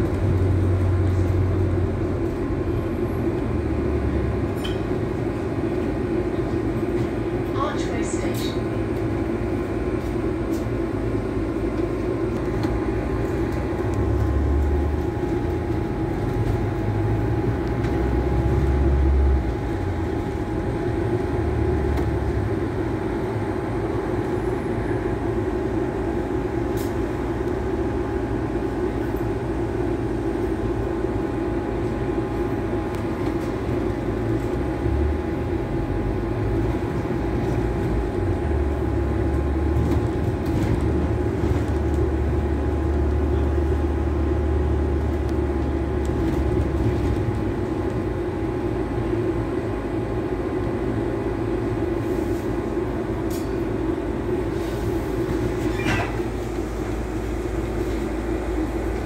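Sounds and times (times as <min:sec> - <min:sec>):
bus engine drone: 0:00.0 - 0:59.0
road rumble: 0:00.0 - 0:59.0.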